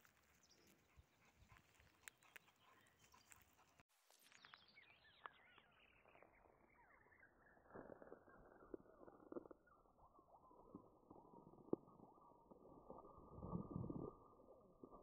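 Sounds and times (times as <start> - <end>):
soft chirps and ticks: 0.0 - 15.0.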